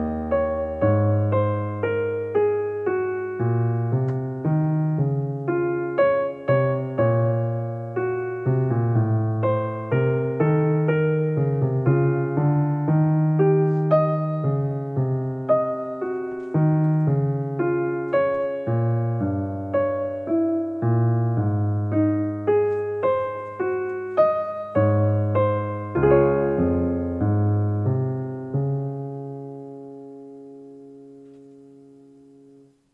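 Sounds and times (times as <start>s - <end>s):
slow calm piano music: 0.0s - 32.9s.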